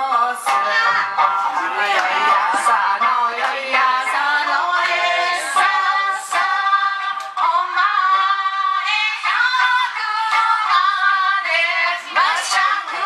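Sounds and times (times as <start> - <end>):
women singing into microphones: 0.0 - 13.0.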